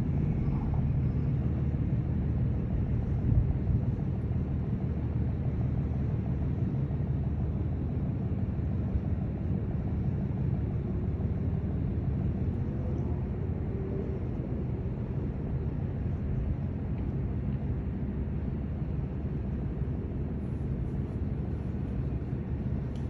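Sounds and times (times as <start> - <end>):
ship low rumble: 0.0 - 23.0.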